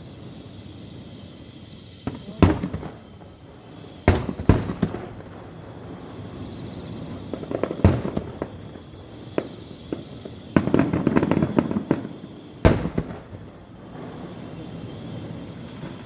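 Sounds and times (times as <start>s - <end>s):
fireworks bangs: 0.0s - 16.0s
fireworks crackling pops: 0.0s - 16.0s.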